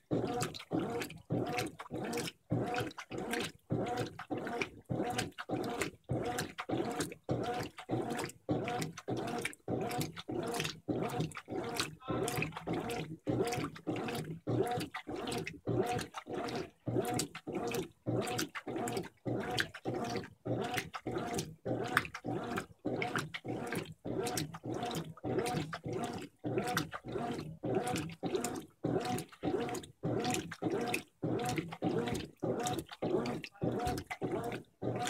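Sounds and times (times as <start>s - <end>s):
washing machine agitator humming: 0.0s - 35.0s
water churning: 0.0s - 35.0s.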